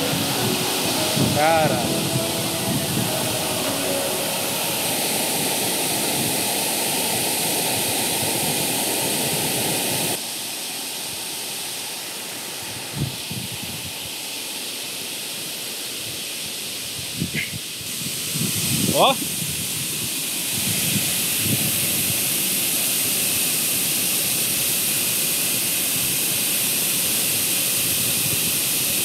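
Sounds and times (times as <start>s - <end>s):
waterfall rushing: 0.0s - 16.9s, 17.9s - 29.0s.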